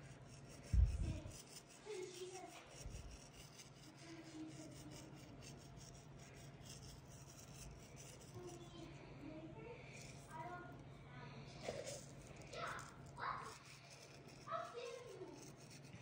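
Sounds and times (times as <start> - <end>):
faint distant voices: 0.5 - 16.0.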